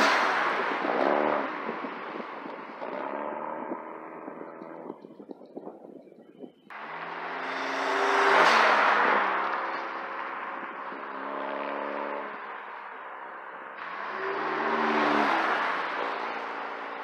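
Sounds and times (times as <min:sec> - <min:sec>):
loud car exhaust passing: 0:00.0 - 0:05.6, 0:06.7 - 0:17.0.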